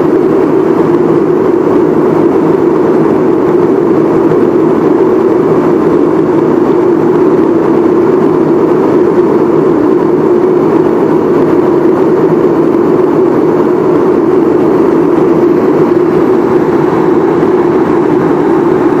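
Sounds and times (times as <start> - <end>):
aircraft cabin engine drone: 0.0 - 19.0.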